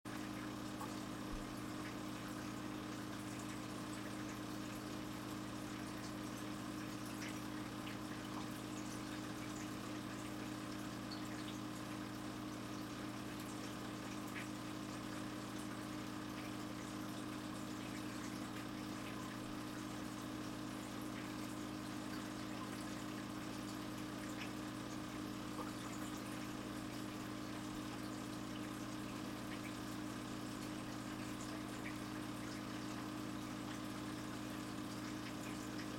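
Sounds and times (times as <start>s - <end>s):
low equipment hum: 0.1s - 35.9s.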